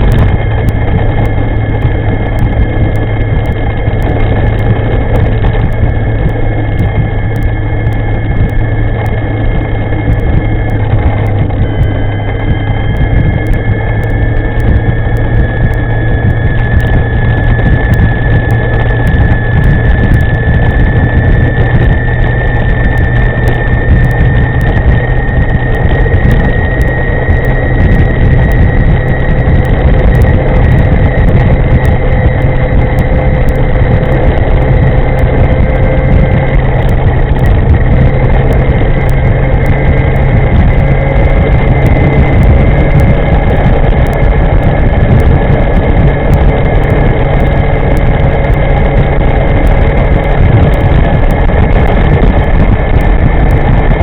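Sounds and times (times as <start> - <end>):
electric scooter motor whining: 0.0 - 54.0
wind rushing on microphone: 0.0 - 54.0.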